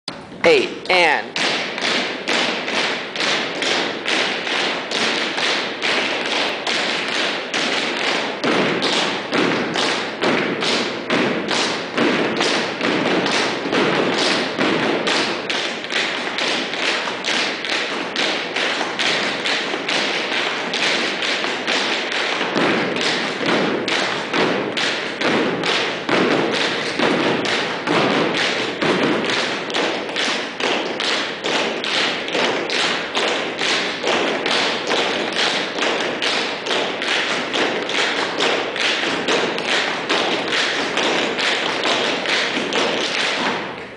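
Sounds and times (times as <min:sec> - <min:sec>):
dancers' feet tapping on floor: 0:00.1 - 0:43.9.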